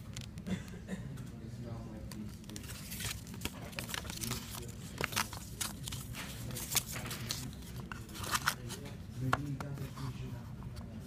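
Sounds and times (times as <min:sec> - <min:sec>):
paper pages flipping: 0:00.0 - 0:00.5, 0:02.1 - 0:10.9.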